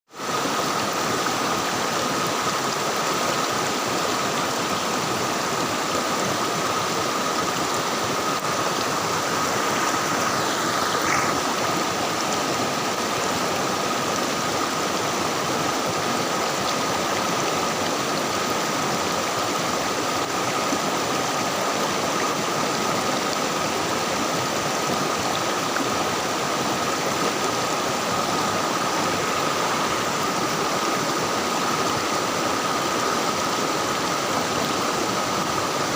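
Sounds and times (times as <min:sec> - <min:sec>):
river water flowing: 0:00.1 - 0:35.9.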